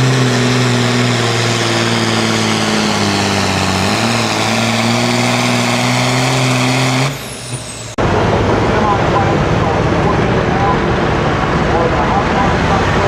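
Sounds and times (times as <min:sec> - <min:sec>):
tractor diesel engine running hard: 0:00.0 - 0:13.0.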